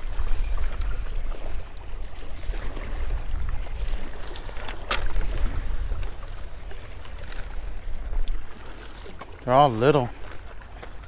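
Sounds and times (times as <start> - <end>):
wind rumbling on microphone: 0.0 - 9.5
waves slapping against rocks: 0.0 - 11.0.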